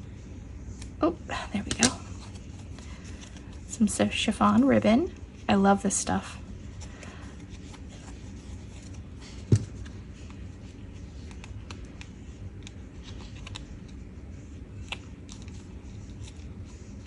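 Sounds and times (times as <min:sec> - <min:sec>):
ribbon rustling: 0:00.6 - 0:17.0.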